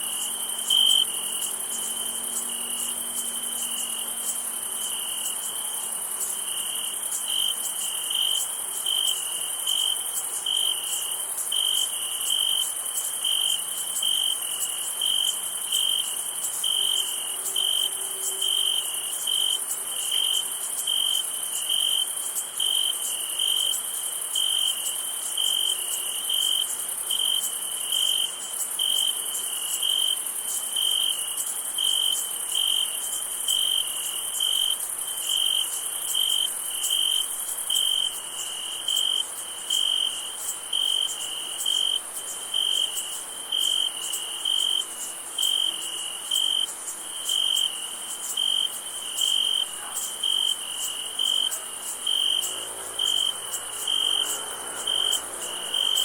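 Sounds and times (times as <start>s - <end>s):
cricket chirping: 0.0s - 56.0s
high-pitched insect trill: 0.0s - 56.0s.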